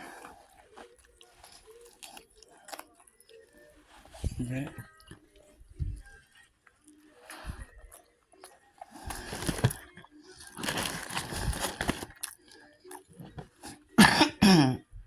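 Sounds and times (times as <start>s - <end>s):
crunching and chewing food: 0.0s - 14.0s.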